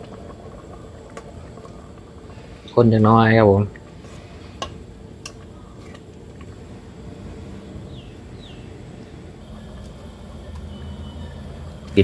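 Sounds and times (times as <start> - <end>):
low steady noise: 0.0 - 12.0.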